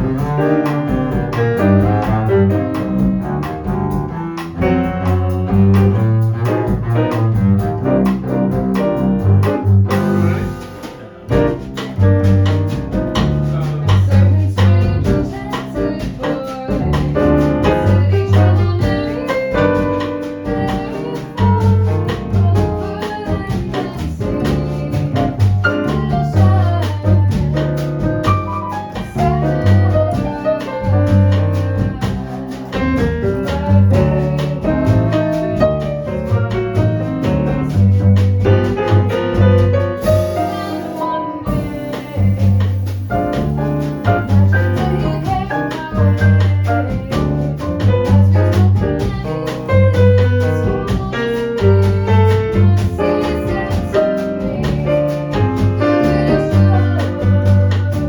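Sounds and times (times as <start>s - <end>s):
jazz combo playing: 0.0s - 58.0s
walking bass notes: 0.0s - 58.0s.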